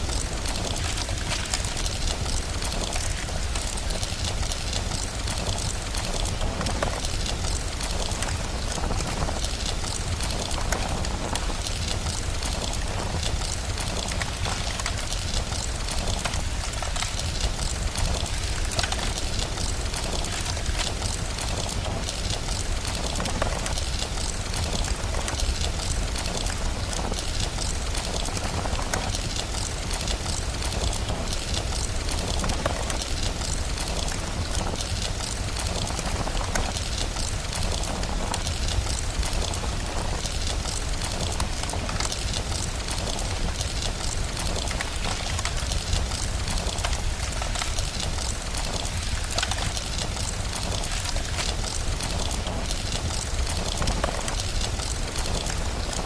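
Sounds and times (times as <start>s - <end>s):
fireplace crackling: 0.0s - 56.0s
rain hissing: 0.0s - 56.0s.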